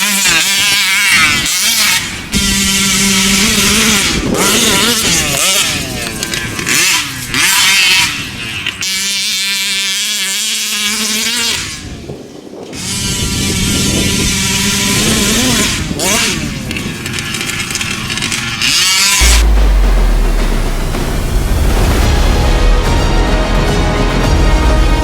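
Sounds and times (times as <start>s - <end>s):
rc truck engine revving: 0.0s - 11.8s, 12.8s - 21.8s.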